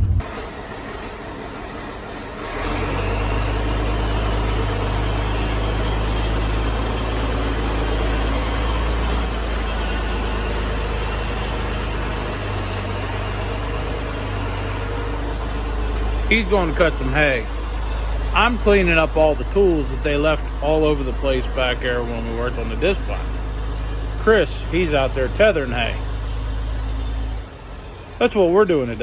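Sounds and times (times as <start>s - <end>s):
vehicle engine droning: 0.0s - 29.0s.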